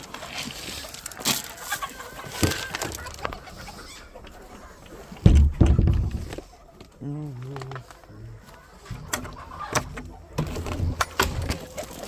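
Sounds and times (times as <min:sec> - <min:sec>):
rustling and clattering: 0:00.0 - 0:08.0, 0:08.8 - 0:12.0
chickens clucking: 0:00.0 - 0:12.0.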